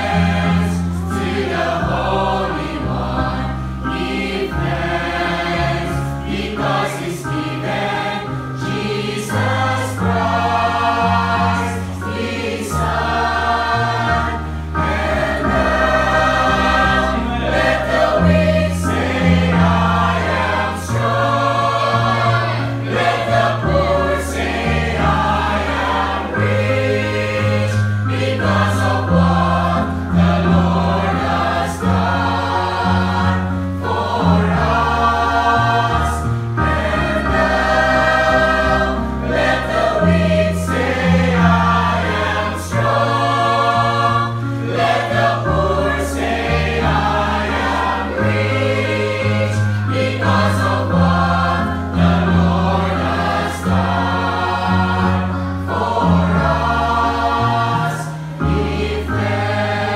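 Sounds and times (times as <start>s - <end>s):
mixed choir singing a hymn: 0.0s - 59.9s.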